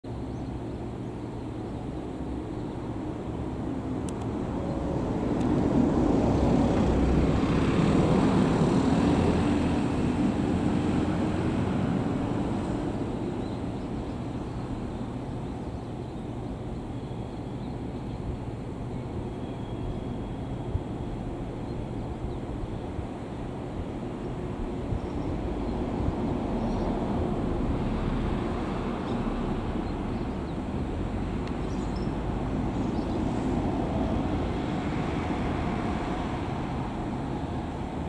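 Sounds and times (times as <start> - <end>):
train rumbling on rails: 0.1 - 38.0.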